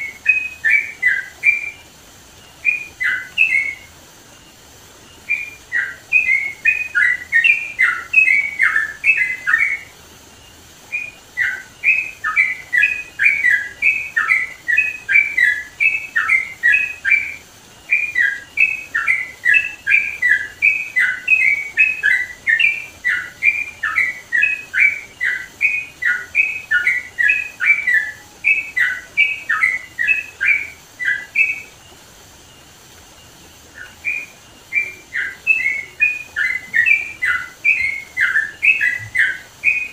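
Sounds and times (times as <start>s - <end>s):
bird singing bubbly notes: 0.0s - 39.9s.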